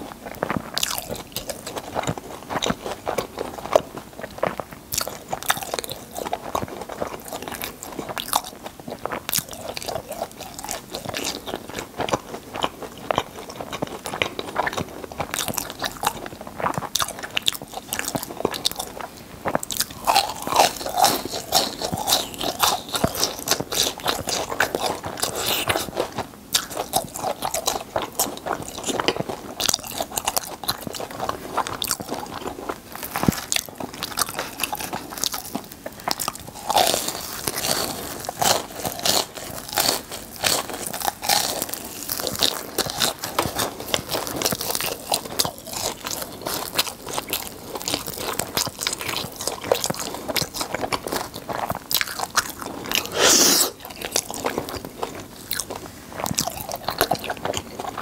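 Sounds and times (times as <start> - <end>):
crunchy chewing of fried food: 0.0 - 58.0.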